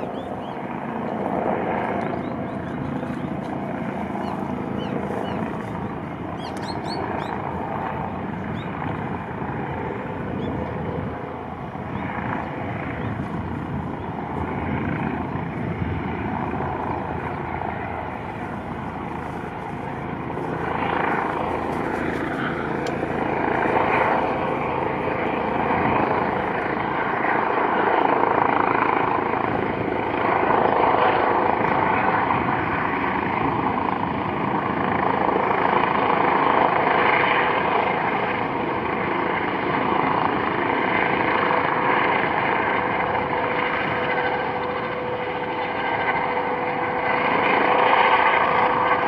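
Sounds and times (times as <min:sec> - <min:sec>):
helicopter rotor and engine: 0:00.0 - 0:49.0.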